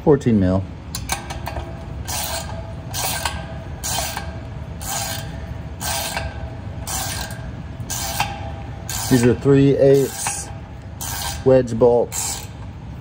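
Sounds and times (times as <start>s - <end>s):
ratchet wrench clicking: 0.9s - 12.7s.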